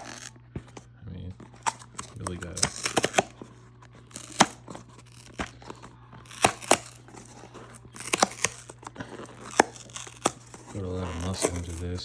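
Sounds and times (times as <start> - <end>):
cardboard box tearing open: 0.0 - 0.8, 1.4 - 12.0.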